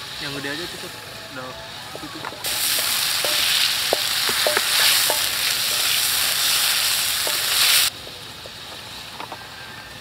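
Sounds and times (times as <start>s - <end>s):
snails sizzling in a wok: 0.0s - 10.0s.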